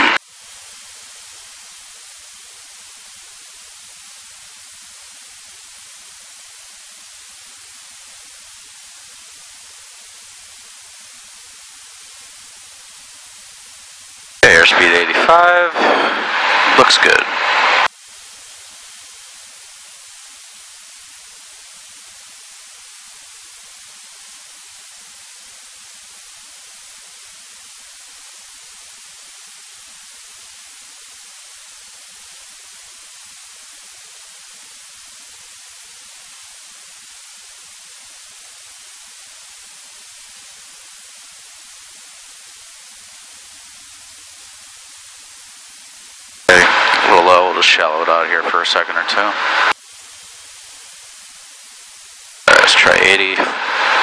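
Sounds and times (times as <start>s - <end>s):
steady electronic hiss: 0.0s - 54.0s.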